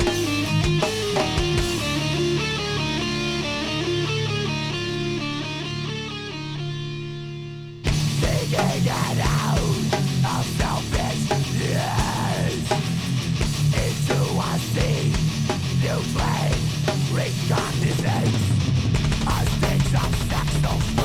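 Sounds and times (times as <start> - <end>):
heavy metal guitars and drums: 0.0 - 21.0.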